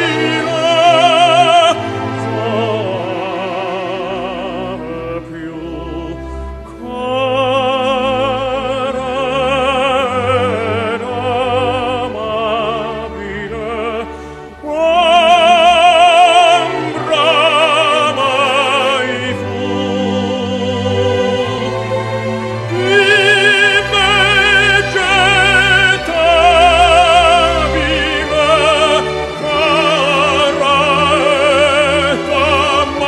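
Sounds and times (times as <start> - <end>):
operatic solo singing: 0.0 - 33.0.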